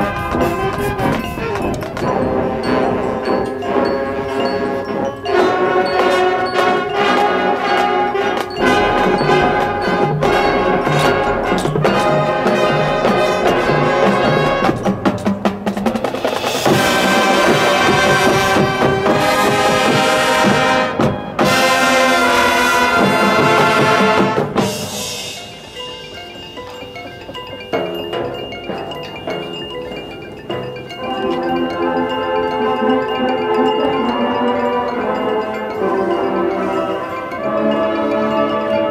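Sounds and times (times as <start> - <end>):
marching band playing: 0.0 - 38.9
sharp percussion hits: 0.0 - 38.9.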